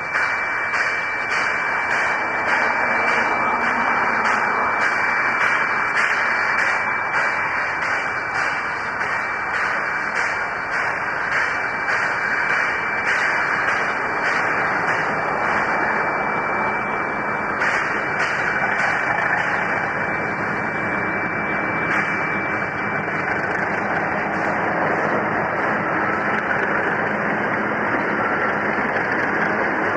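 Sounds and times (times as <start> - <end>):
diesel locomotive engines: 0.0 - 29.9.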